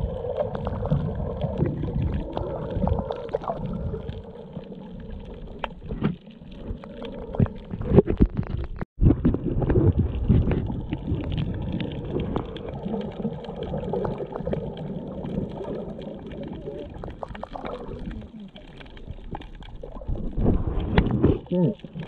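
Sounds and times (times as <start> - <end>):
muffled underwater water gurgle: 0.0 - 22.0
sharp clicks and crackles: 0.1 - 22.0.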